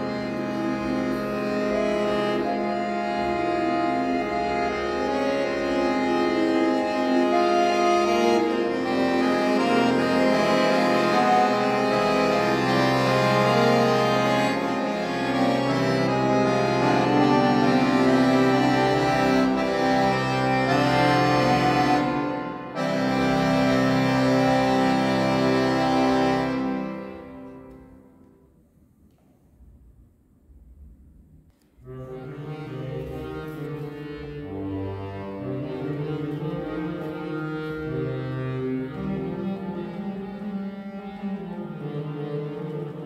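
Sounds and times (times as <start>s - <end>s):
button accordion chords: 0.0s - 28.3s, 31.9s - 43.0s.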